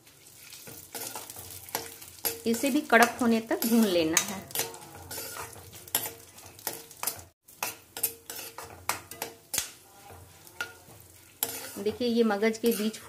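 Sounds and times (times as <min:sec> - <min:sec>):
spoon scraping and clinking on pan: 0:00.6 - 0:13.0.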